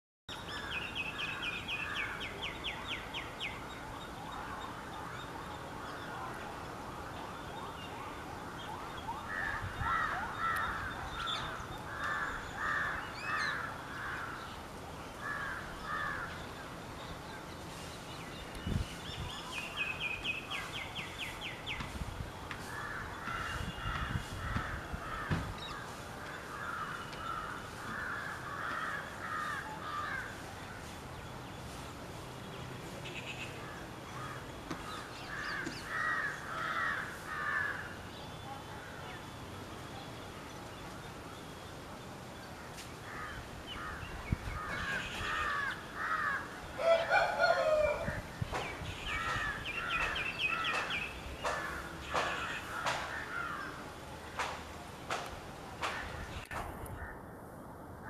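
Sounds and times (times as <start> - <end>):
birds calling: 0.3 - 57.2.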